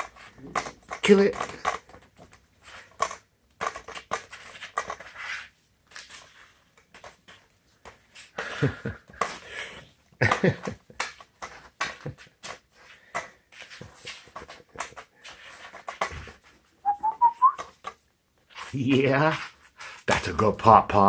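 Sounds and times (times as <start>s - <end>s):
puppies scrabbling with a stick: 0.0s - 20.4s.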